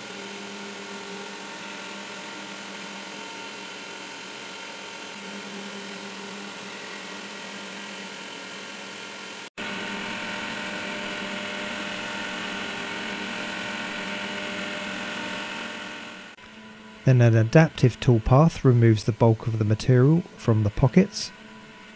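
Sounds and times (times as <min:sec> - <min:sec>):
cnc spindle milling wood: 0:00.0 - 0:21.9.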